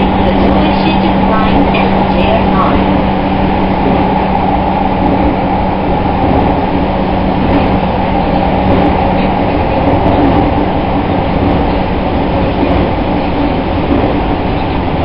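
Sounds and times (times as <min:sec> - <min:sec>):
constant low hum: 0:00.0 - 0:15.0
train wheels rumbling on rail: 0:00.0 - 0:15.0.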